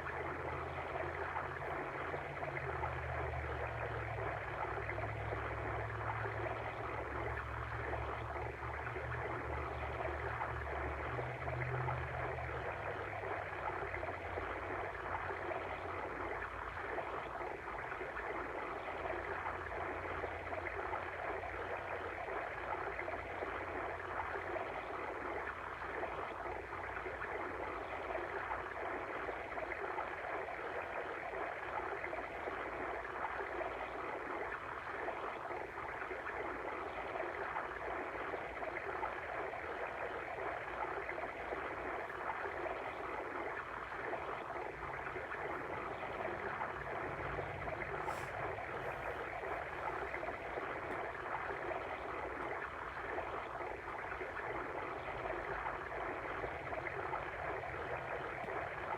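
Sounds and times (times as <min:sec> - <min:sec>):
water stream babbling: 0:00.0 - 0:58.9.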